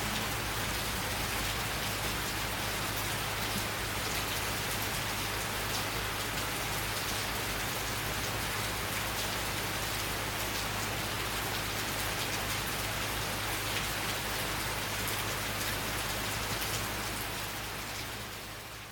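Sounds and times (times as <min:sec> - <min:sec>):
rain falling: 0:00.0 - 0:18.9.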